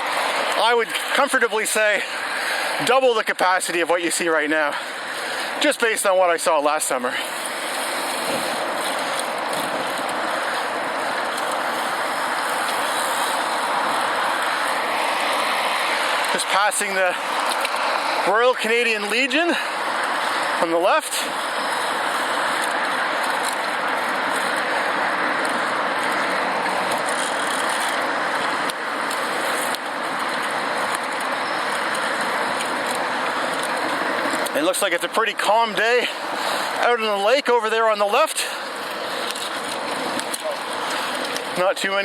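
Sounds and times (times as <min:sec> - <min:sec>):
rushing air on moving bicycle: 0:00.0 - 0:42.0.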